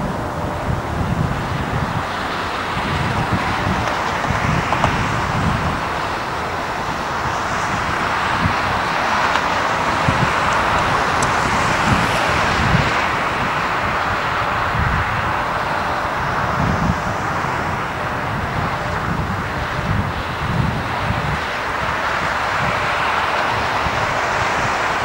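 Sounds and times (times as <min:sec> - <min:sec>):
jet engine rushing: 0:00.0 - 0:25.0
wind buffeting microphone: 0:00.0 - 0:25.0.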